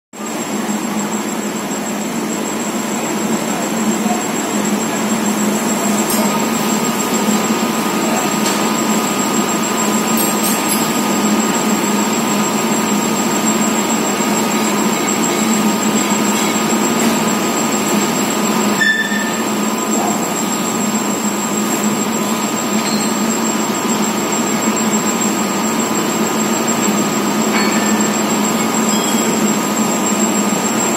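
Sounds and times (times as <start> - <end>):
lathe running with high whine: 0.2 - 30.9.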